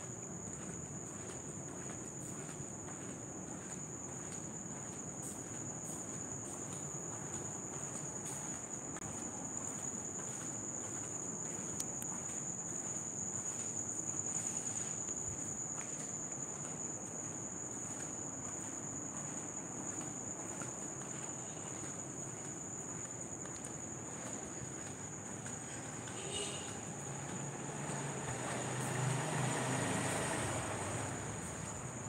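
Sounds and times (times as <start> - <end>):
crickets trilling: 0.0 - 32.0
faint background noise: 0.0 - 32.0.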